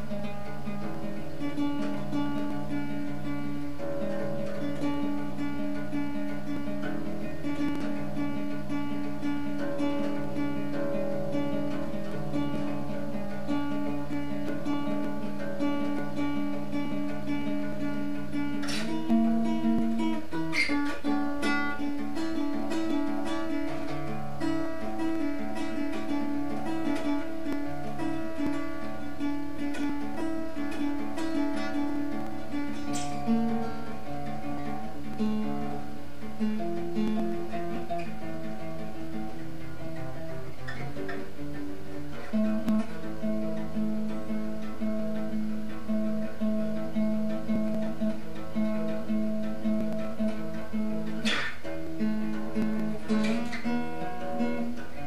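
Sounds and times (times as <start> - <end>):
acoustic guitar picking and strumming: 0.0 - 55.0.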